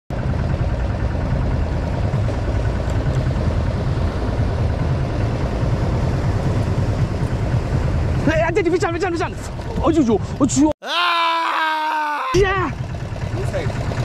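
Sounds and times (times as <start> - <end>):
boat engine droning: 0.1 - 14.0.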